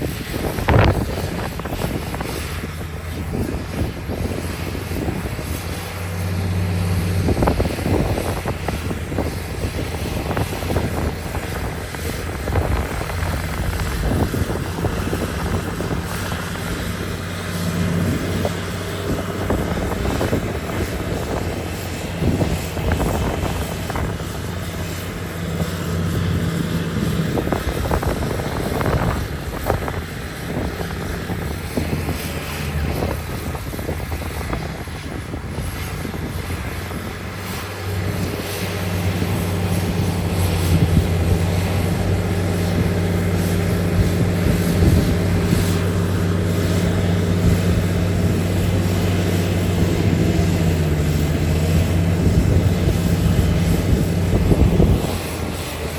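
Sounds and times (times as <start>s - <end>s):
heavy diesel machinery running: 0.0s - 55.9s.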